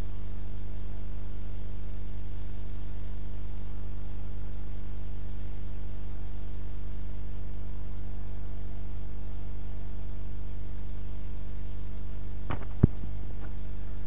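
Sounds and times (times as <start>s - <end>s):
electrical mains hum with hiss: 0.0s - 14.0s.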